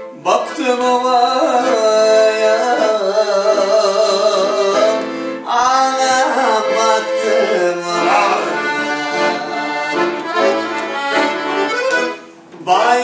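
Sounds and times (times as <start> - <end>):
piano accordion melody: 0.0 - 13.0.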